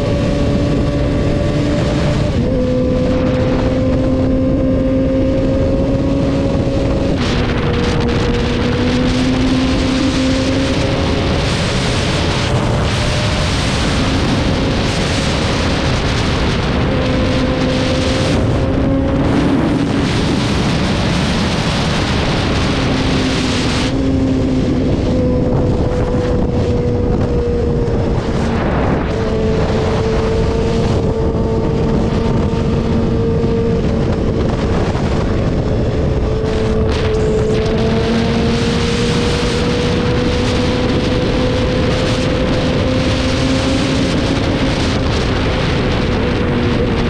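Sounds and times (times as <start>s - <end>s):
motorcycle engine cruising: 0.0s - 47.0s
wind rush on microphone: 0.0s - 47.0s.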